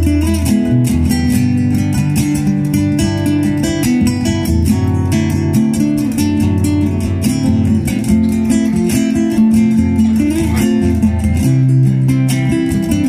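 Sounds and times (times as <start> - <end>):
acoustic guitar duet: 0.0 - 13.0.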